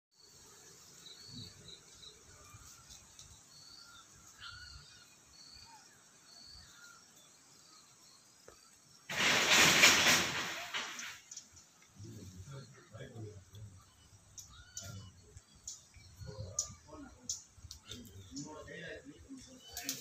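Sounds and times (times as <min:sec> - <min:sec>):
low outdoor hiss: 0:00.2 - 0:20.0.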